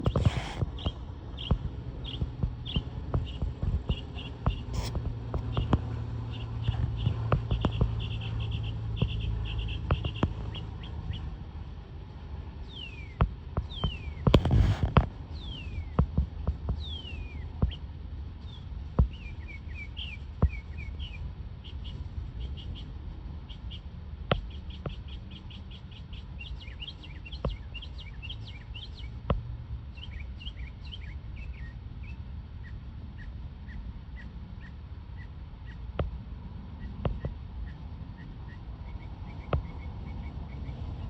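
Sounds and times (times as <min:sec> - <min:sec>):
small bird singing: 0:00.0 - 0:11.4, 0:12.6 - 0:41.0
low steady rumble: 0:00.0 - 0:41.0.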